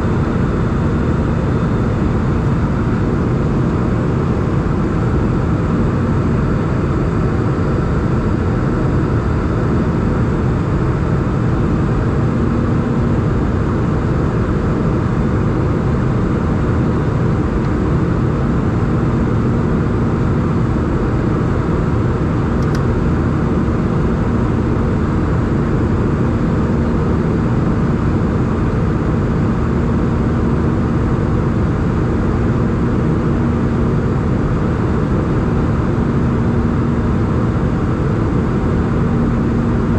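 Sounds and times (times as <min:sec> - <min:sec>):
engine and rushing air roar: 0:00.0 - 0:39.9
faint steady hum: 0:00.0 - 0:39.9.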